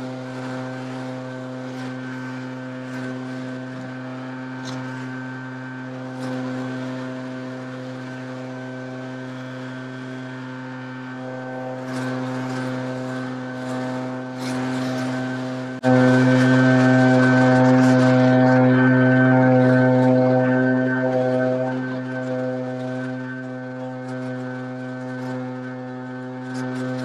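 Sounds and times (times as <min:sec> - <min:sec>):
leaf blower engine running: 0:00.0 - 0:27.0.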